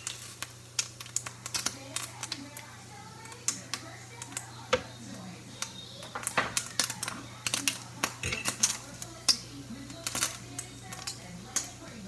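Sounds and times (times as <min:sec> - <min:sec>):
bacon frying in a pan: 0:00.0 - 0:12.0
grease crackling and popping: 0:00.0 - 0:12.0.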